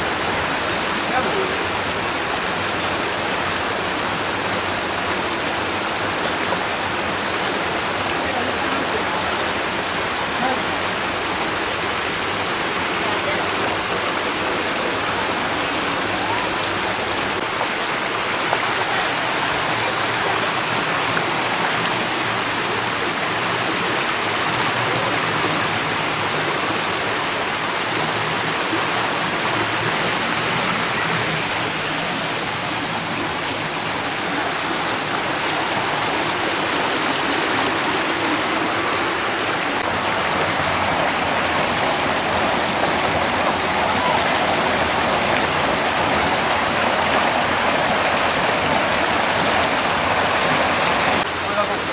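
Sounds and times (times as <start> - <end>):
stream babbling: 0.0 - 51.9.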